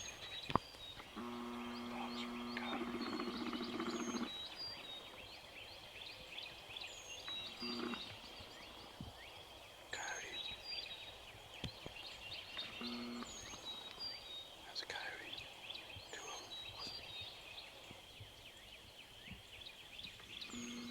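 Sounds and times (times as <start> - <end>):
small birds chirping and trilling: 0.0 - 20.9.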